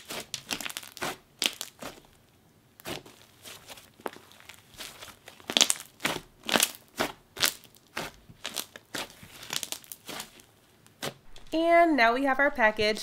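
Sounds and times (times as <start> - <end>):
slime squished with pops and crackles: 0.0 - 11.3.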